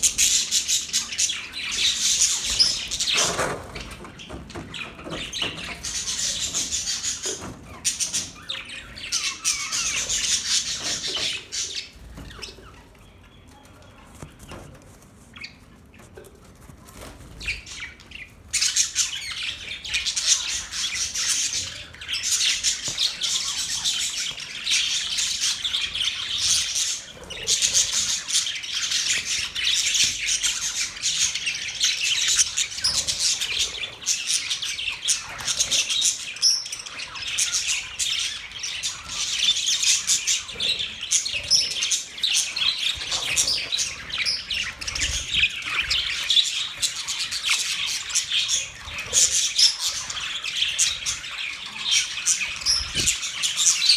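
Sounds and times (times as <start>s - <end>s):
budgerigars chirping: 0.0s - 13.6s, 16.9s - 53.9s.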